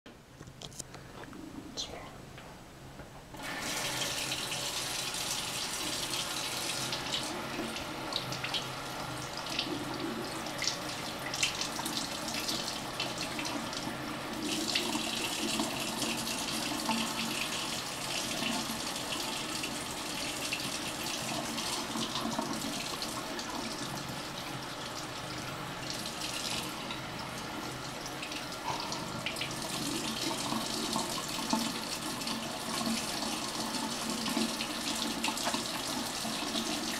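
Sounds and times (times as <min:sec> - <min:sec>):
faucet running and splashing: 0:03.4 - 0:36.9.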